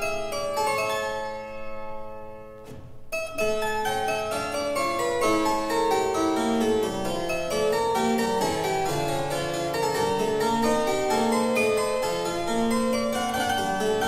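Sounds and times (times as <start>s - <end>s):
harpsichord music: 0.0s - 14.0s.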